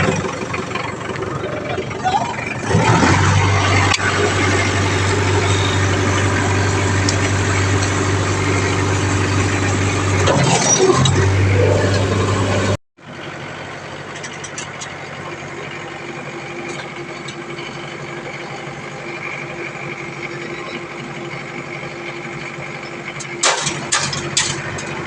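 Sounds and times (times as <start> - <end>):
heavy machine engine idling: 0.0 - 25.0.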